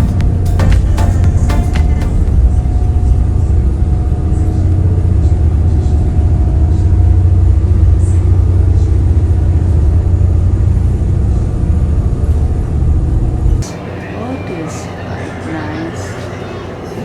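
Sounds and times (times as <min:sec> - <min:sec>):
boat engine droning: 0:00.0 - 0:17.0
faint higher hum: 0:00.0 - 0:17.0.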